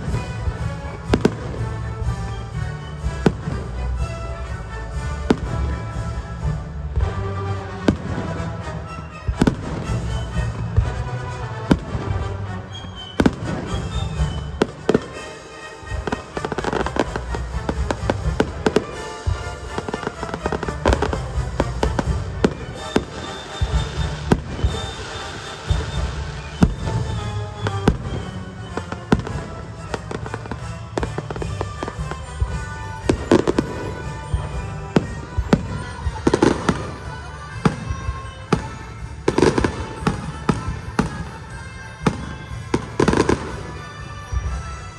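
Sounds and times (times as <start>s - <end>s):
fireworks bangs and crackles: 0.0s - 44.9s
music soundtrack: 0.0s - 44.9s.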